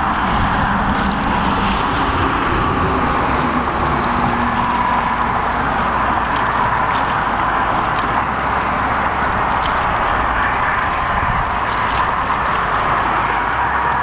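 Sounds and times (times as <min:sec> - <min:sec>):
water washing against rocks: 0:00.0 - 0:14.0.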